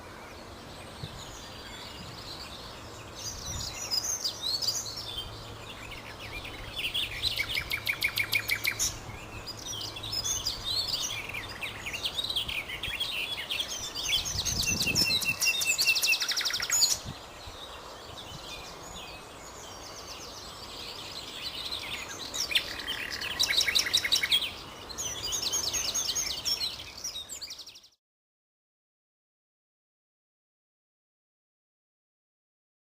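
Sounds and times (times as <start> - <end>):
nightingale singing: 0.0 - 28.0.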